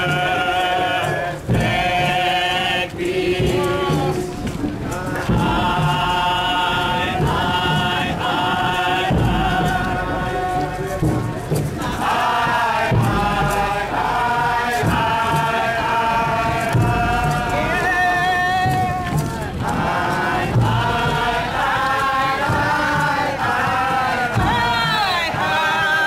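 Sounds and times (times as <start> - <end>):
group chanting in unison: 0.0 - 26.0.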